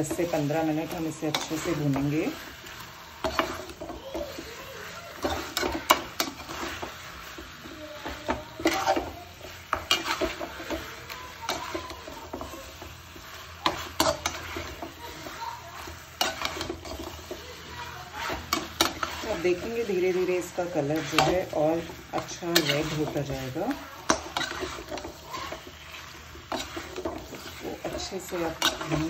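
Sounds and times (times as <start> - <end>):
metal spoon scraping a metal pan: 0.0 - 29.0
sizzling in oil: 0.0 - 29.0.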